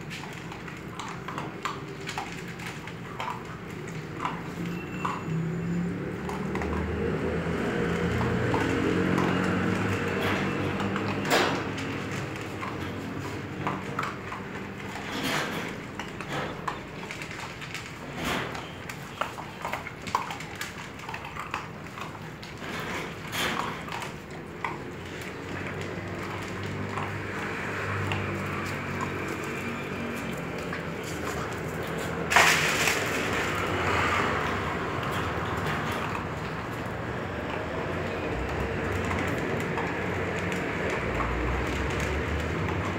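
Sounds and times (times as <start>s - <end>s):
kibble clicking on metal tray: 0.0s - 5.2s, 6.1s - 42.9s
dogs crunching kibble: 0.0s - 42.9s.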